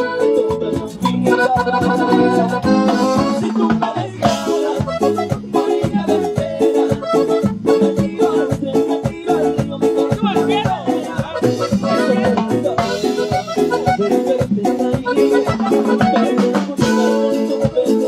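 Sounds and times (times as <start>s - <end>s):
live band playing latin dance music: 0.0s - 18.0s
percussion beat: 0.0s - 18.0s.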